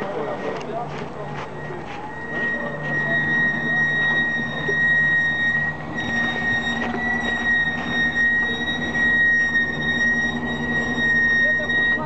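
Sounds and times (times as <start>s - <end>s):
constant high whine: 0.0s - 12.0s
crane engine drone: 0.0s - 12.0s.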